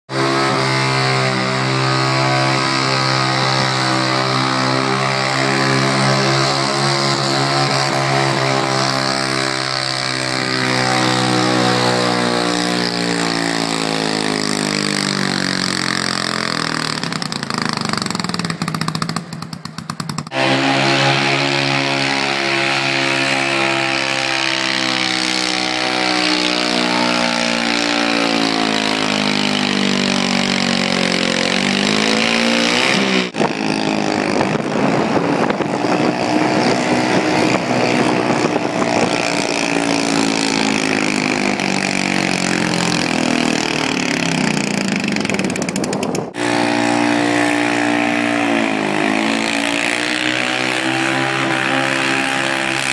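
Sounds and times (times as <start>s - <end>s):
tractor engines running under load: 0.1s - 52.9s.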